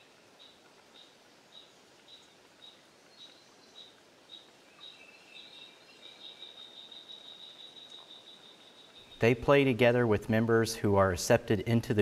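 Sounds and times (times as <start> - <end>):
soft outdoor hiss: 0.0 - 12.0.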